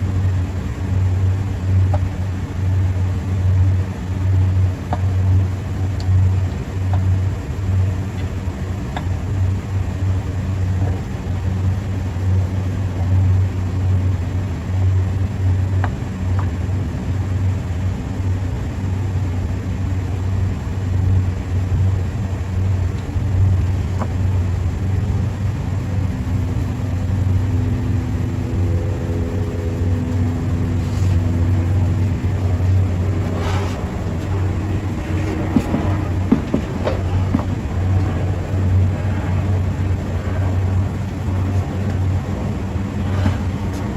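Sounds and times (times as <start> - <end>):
low rumbling machinery hum: 0.0 - 43.9.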